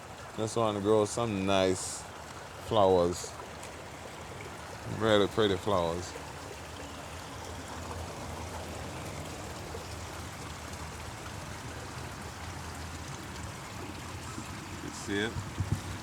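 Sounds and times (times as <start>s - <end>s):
water trickling over pond waterfall: 0.0s - 16.0s.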